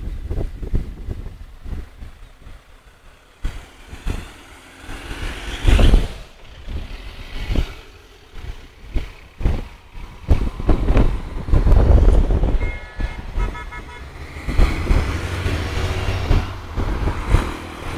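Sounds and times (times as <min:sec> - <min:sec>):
road traffic passing: 0:00.0 - 0:17.9
vehicle passing close: 0:02.4 - 0:17.9.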